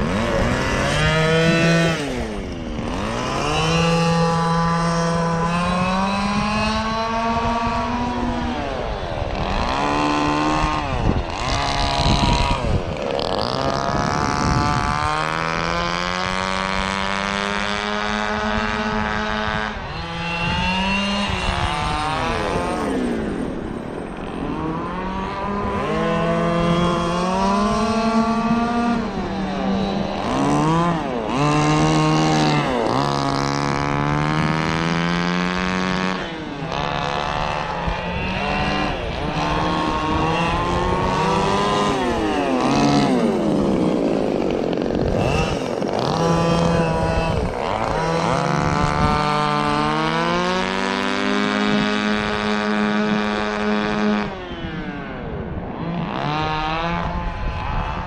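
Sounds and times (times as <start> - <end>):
small two-stroke engine revving: 0.0 - 58.0.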